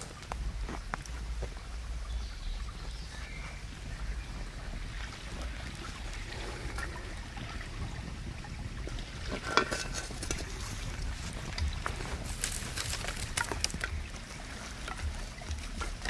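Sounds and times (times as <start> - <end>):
campfire hissing and crackling: 0.0 - 2.2, 3.3 - 16.0.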